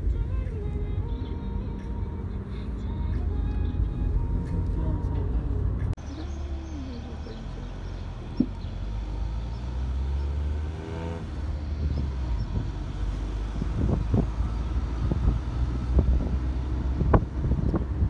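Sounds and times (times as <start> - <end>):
car interior engine rumble: 0.0 - 18.0.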